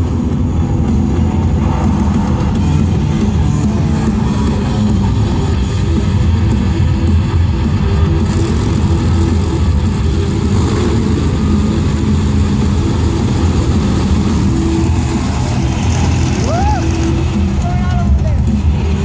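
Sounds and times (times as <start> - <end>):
truck engine deep rumble: 0.0 - 19.0.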